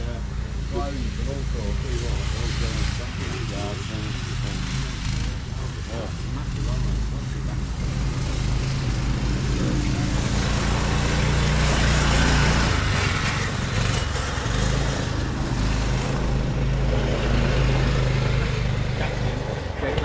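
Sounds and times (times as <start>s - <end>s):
off-road buggy engines running: 0.0s - 20.0s.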